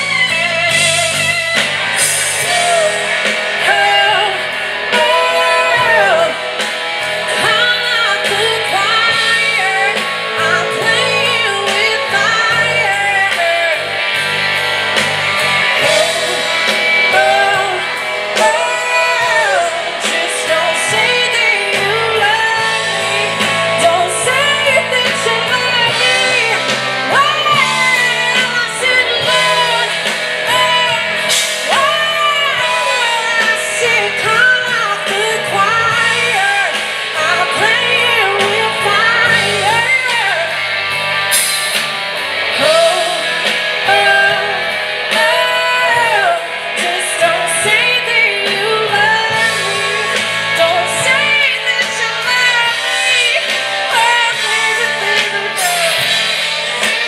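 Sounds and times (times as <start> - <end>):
blues rock band playing: 0.0 - 57.0.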